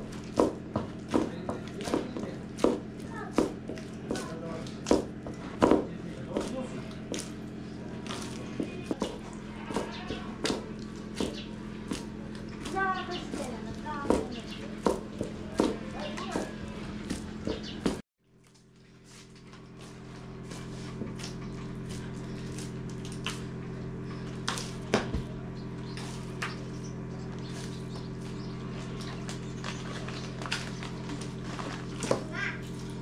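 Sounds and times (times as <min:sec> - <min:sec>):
hands kneading dough: 0:00.0 - 0:33.0
steady low hum: 0:00.0 - 0:33.0.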